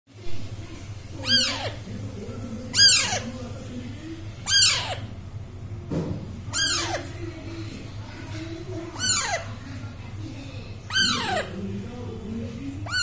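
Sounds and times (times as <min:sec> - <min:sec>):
steady low hum: 0:00.1 - 0:13.0
parakeets squawking: 0:01.0 - 0:05.4, 0:06.4 - 0:13.0.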